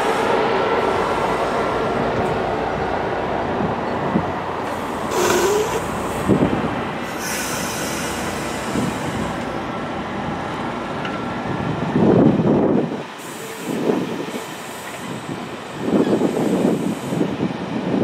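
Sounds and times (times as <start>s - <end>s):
rush of passing train: 0.0s - 18.0s
train wheels rumbling on rails: 0.0s - 18.0s.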